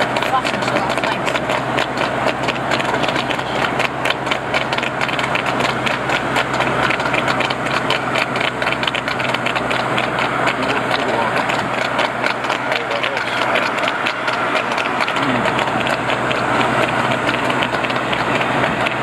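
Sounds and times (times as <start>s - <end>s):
hooves clattering on tarmac: 0.0s - 19.0s
vehicle engine running: 0.0s - 19.0s.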